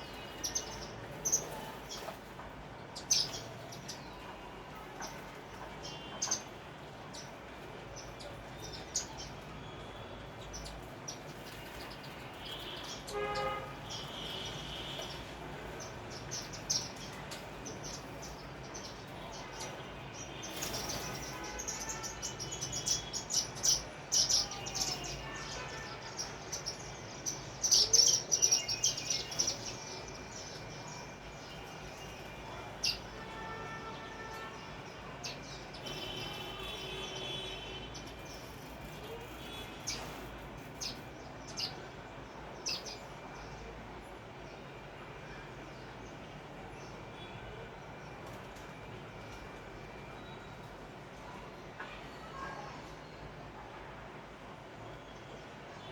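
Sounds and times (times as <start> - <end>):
sparrows chirping: 0.0 - 51.6.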